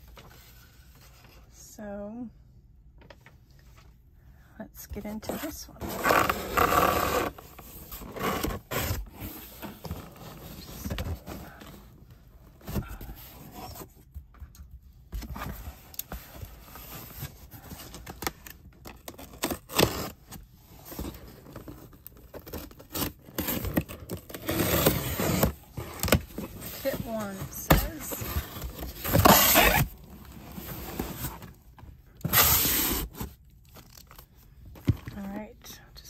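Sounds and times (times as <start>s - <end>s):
packaging rustling and scraping: 5.3s - 14.1s, 15.2s - 35.4s.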